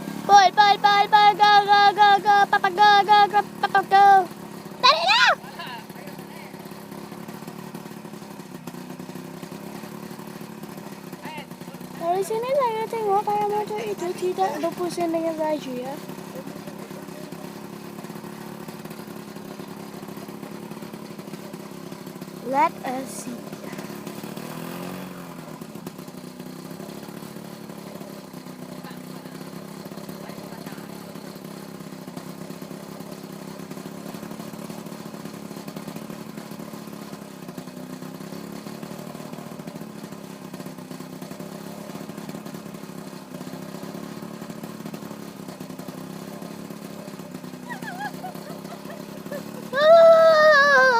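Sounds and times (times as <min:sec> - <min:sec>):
paramotor engine running: 0:00.0 - 0:50.9.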